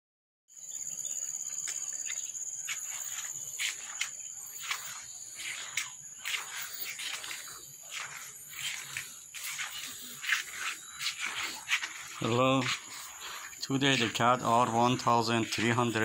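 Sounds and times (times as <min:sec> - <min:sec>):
high-pitched insect chorus: 0:00.5 - 0:16.0.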